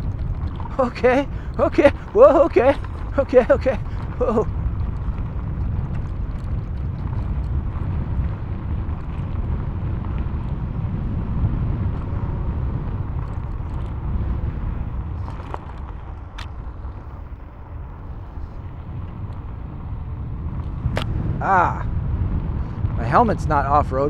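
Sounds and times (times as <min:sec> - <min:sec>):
tyres rumbling over rough ground: 0:00.0 - 0:24.0
wind on microphone: 0:00.0 - 0:24.0.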